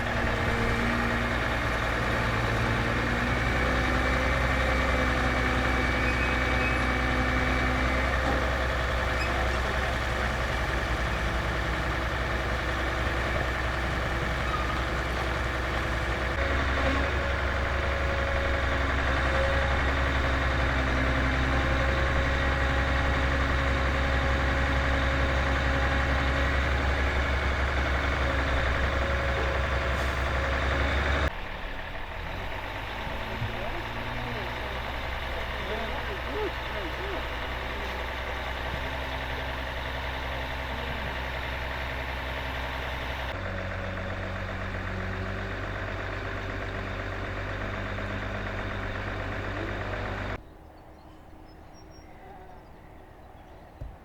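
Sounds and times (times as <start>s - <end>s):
boat motor running: 0.0s - 50.4s.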